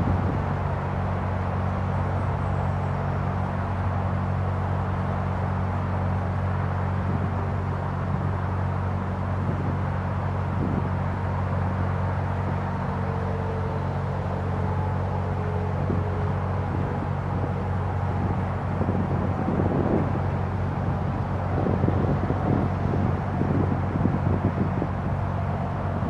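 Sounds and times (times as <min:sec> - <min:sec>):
wind buffeting microphone: 0:00.0 - 0:02.4, 0:06.9 - 0:13.0, 0:13.6 - 0:26.0
boat diesel engine droning: 0:00.0 - 0:26.0.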